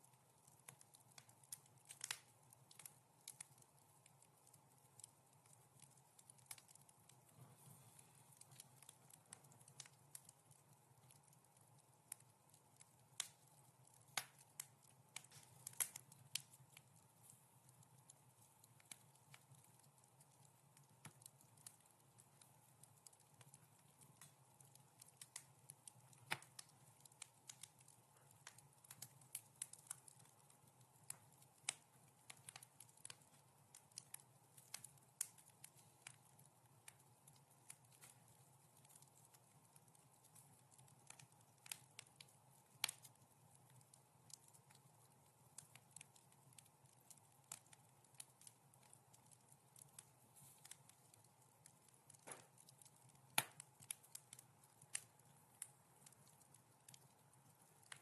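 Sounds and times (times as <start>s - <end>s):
faint steady background noise: 0.0s - 58.0s
wood fire crackling: 0.0s - 58.0s.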